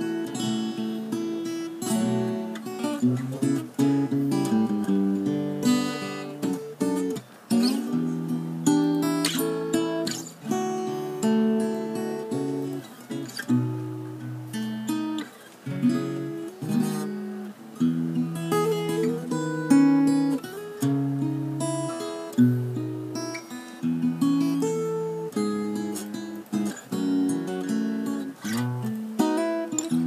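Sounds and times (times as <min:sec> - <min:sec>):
fingerstyle acoustic guitar: 0:00.0 - 0:30.0.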